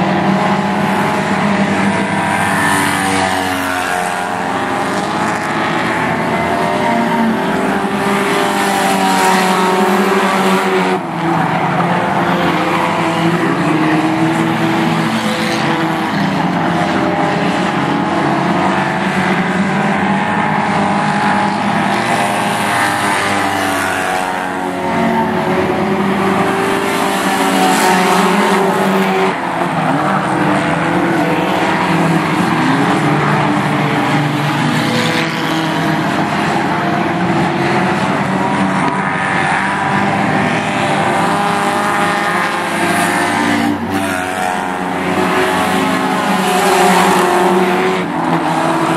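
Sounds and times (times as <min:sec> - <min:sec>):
race car engines at speed: 0:00.0 - 0:48.9.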